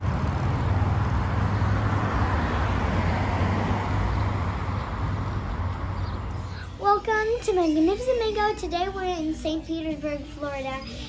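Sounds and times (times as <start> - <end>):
road vehicle rumble: 0.0 - 11.0.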